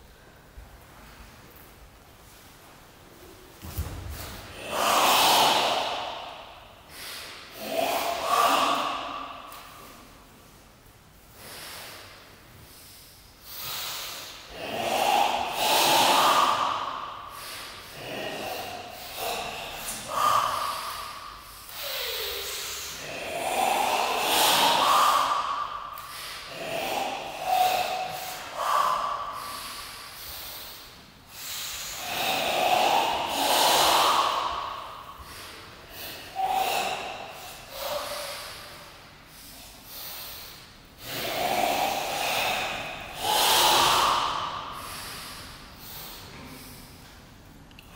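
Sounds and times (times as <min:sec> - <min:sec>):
forced hissing breaths: 0:03.7 - 0:10.6, 0:11.2 - 0:47.3.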